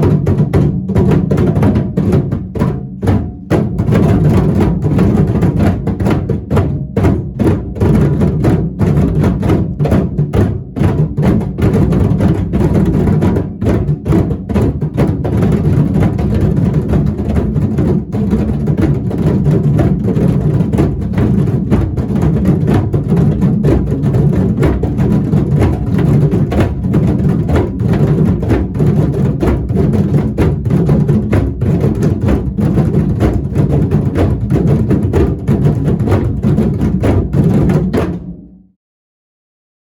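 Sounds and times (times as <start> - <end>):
percussion music: 0.0 - 38.7.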